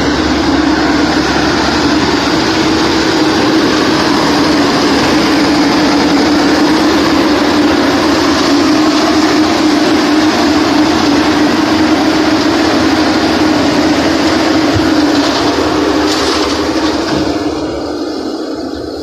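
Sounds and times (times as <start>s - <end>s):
concrete mixer pump running: 0.0s - 19.0s.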